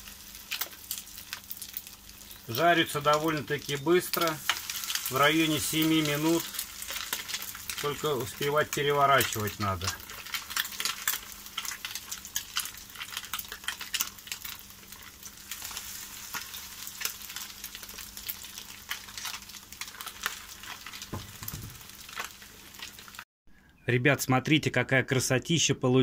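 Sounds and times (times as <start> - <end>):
batter frying in hot oil: 0.0 - 23.3.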